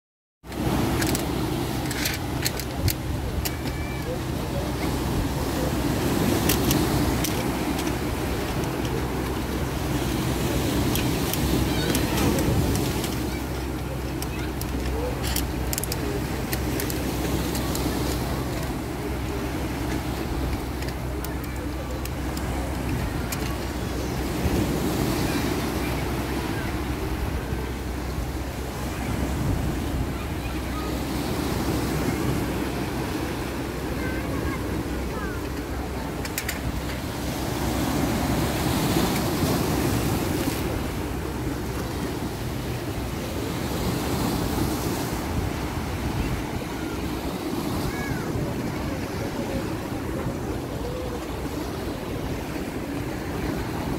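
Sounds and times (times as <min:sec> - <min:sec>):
waves breaking on beach: 0:00.4 - 0:53.9.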